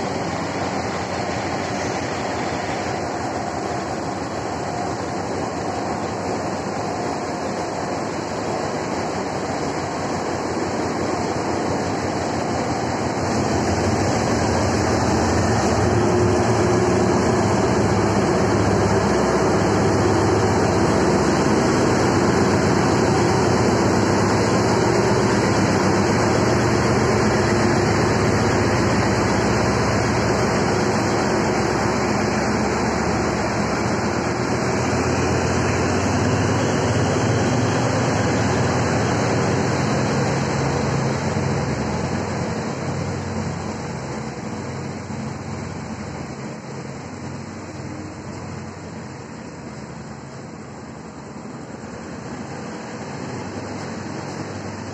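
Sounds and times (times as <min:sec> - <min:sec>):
diesel locomotive engine: 0:00.0 - 0:54.9
train wheels on rails: 0:00.0 - 0:54.9.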